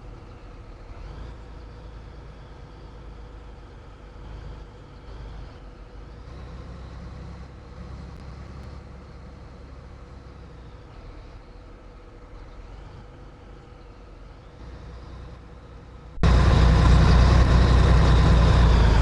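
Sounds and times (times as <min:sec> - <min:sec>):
constant hum: 0:00.0 - 0:19.0
road noise: 0:00.0 - 0:19.0
truck engine rumble: 0:00.0 - 0:19.0.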